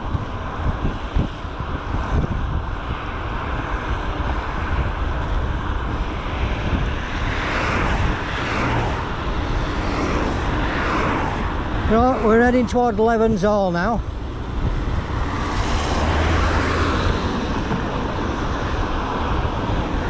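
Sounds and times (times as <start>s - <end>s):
road traffic passing: 0.0s - 20.0s
wind buffeting microphone: 0.0s - 20.0s.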